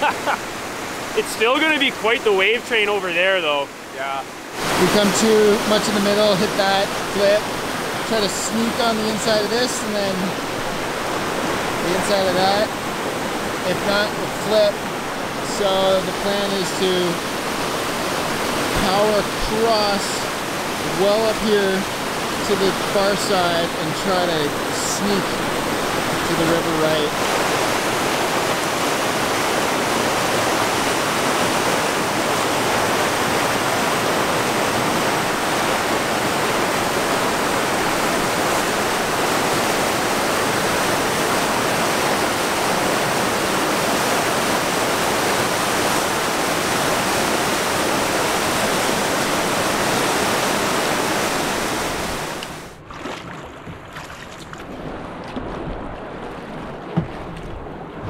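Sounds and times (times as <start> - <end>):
quiet water sounds: 0.0 - 58.0
rush of river rapids: 0.0 - 58.0.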